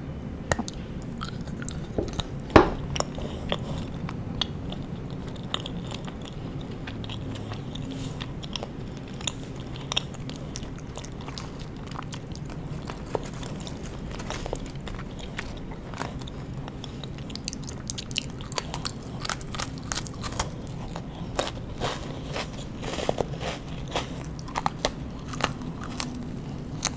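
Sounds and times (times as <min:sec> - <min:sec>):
chewing crunchy biscuit sticks: 0:00.5 - 0:26.9.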